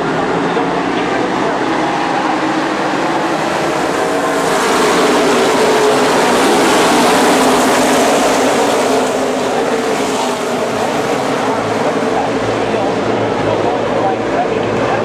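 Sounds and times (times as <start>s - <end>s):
race car engines at full throttle: 0.0s - 15.0s.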